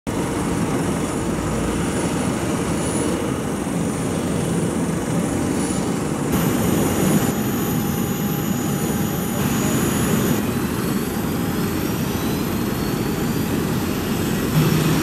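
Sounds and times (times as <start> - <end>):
high engine whine: 0.1 - 15.0
turboprop engines running: 0.1 - 15.0.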